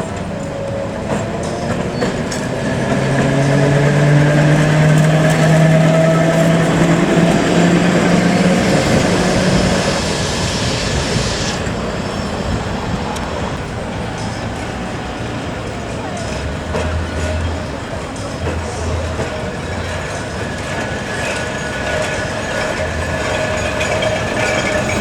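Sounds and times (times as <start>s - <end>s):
tram motor hum: 0.0s - 25.0s
wheels rumbling on track: 0.0s - 25.0s.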